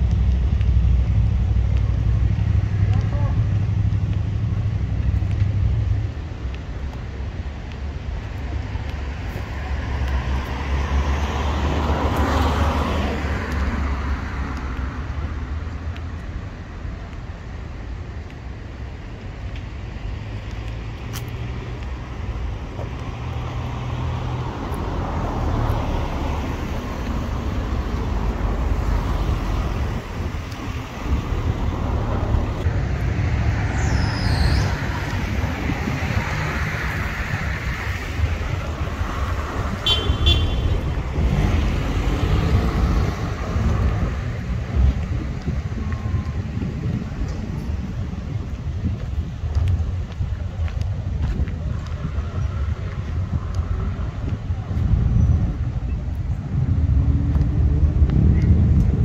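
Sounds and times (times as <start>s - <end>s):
cars passing: 0.0s - 59.0s
low traffic rumble: 0.0s - 59.0s.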